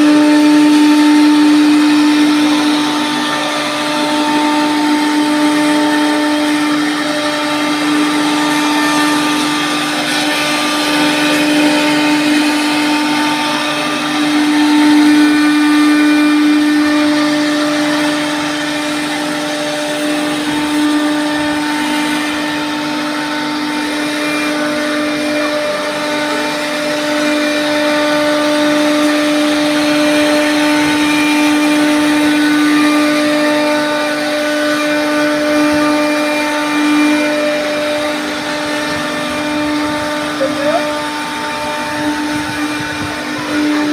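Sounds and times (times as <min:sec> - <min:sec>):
bits cutting wood: 0:00.0 - 0:43.9
router spindle motors whining: 0:00.0 - 0:43.9.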